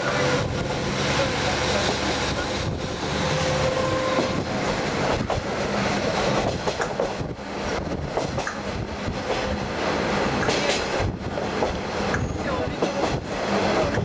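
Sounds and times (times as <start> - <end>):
rail joint clicks and knocks: 0.0 - 14.0
train wheels rumbling on rail: 0.0 - 14.0.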